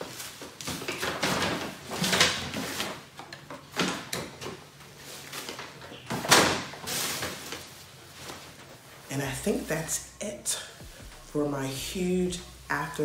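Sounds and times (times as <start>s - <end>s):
rustling and bumping of objects: 0.0s - 13.0s.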